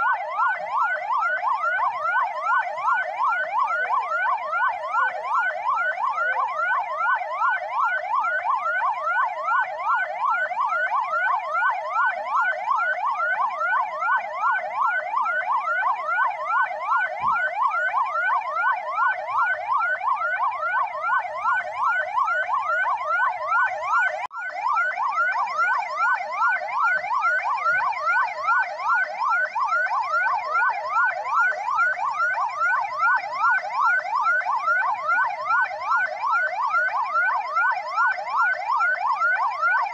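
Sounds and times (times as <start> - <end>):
ambulance siren yelping: 0.0 - 39.9.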